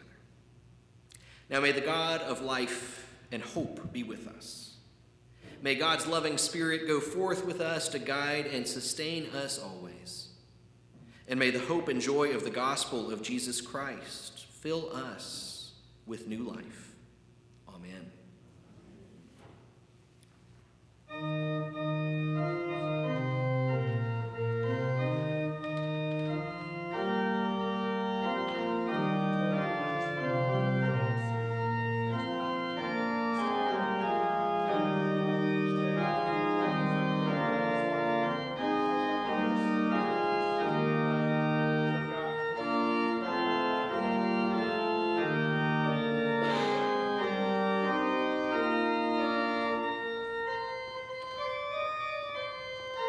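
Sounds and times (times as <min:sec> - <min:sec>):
organ playing slow held chords: 0:00.0 - 0:10.4, 0:11.1 - 0:17.9, 0:20.8 - 0:53.0.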